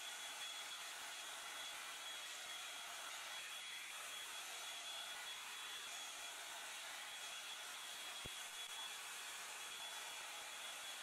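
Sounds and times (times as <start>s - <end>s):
hair dryer blowing with whine: 0.0s - 11.0s.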